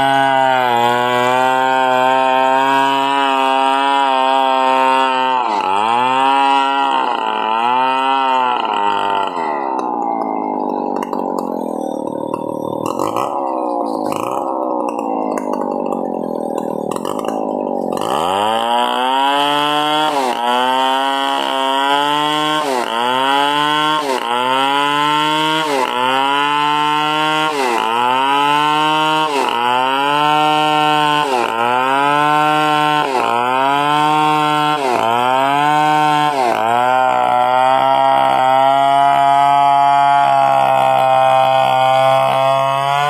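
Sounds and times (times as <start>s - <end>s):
chainsaw sawing wood: 0.0s - 43.0s.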